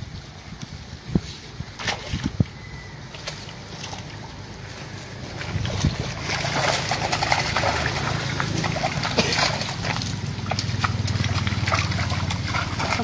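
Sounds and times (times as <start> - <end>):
fish splashing in shallow water: 0.1 - 13.0.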